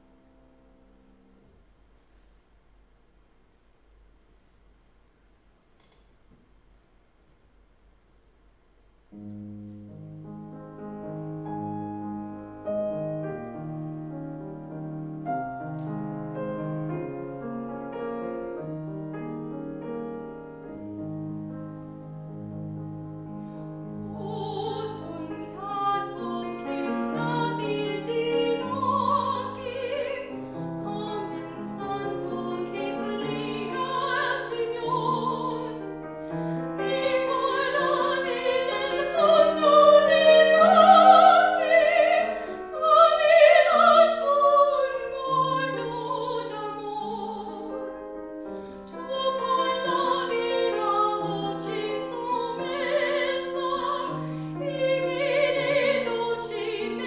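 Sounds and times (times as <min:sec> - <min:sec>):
piano accompaniment: 0:09.1 - 0:57.0.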